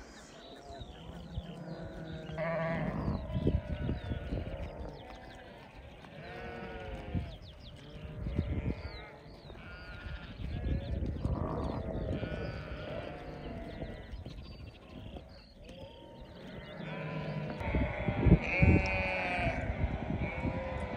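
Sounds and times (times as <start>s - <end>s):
sheep bleating: 1.1s - 14.0s, 14.8s - 20.9s.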